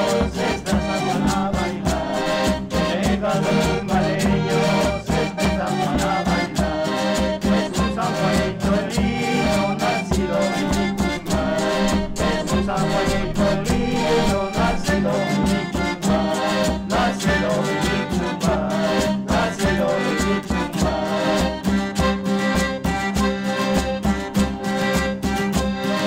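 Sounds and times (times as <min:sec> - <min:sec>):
band playing andean dance music: 0:00.0 - 0:26.0.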